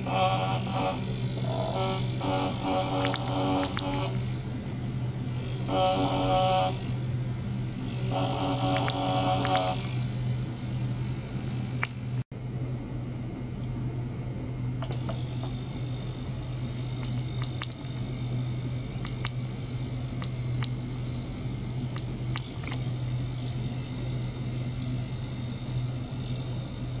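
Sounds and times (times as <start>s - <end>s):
ultrasonic cleaner humming: 0.0s - 12.2s, 14.8s - 27.0s.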